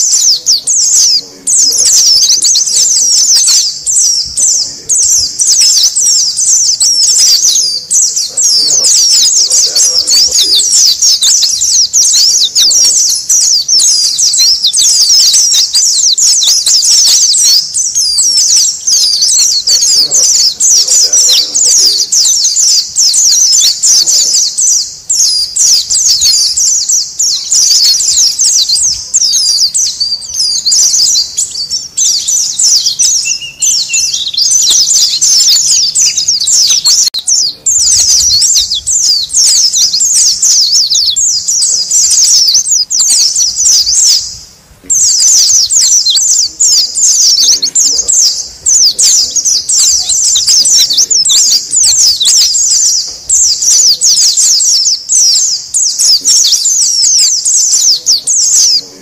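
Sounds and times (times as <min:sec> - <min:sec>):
birds chirping in chorus: 0:00.0 - 0:59.0.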